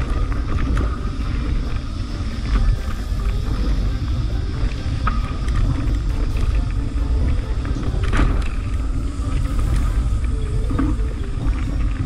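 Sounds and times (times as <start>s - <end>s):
bike tyres rumbling over dirt: 0.0s - 12.0s
faint steady tones: 0.0s - 12.0s
wind buffeting microphone: 0.0s - 12.0s.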